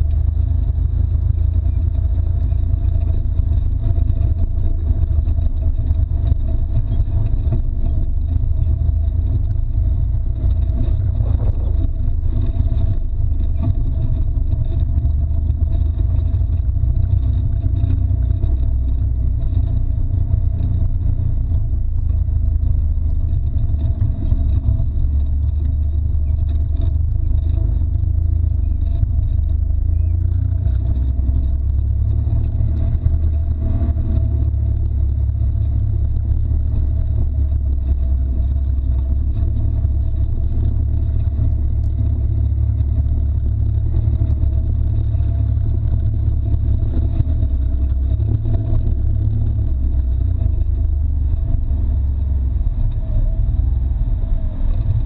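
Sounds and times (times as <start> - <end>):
low engine rumble: 0.0 - 55.0.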